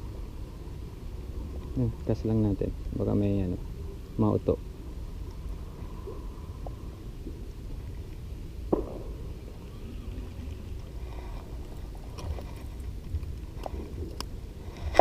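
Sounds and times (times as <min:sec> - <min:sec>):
low wind rumble on microphone: 0:00.0 - 0:15.0.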